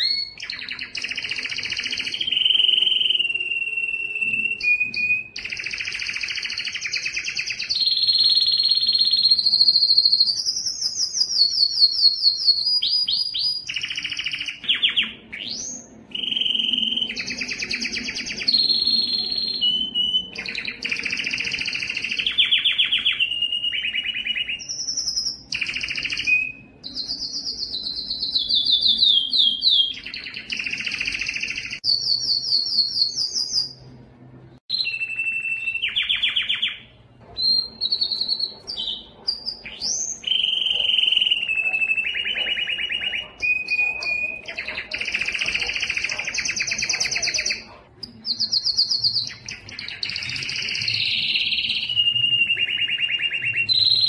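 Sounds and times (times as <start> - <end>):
canary singing trills: 0.0 - 34.0, 34.6 - 54.0.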